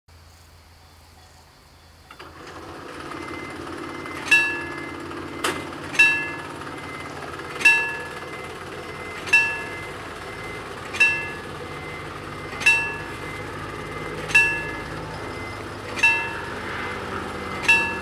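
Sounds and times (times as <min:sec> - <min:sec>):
level-crossing warning bell: 0:02.2 - 0:18.0.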